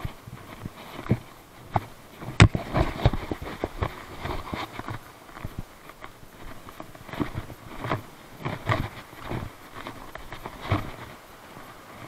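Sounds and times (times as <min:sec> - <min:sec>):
footsteps scuffing on rocks: 0:00.0 - 0:11.9.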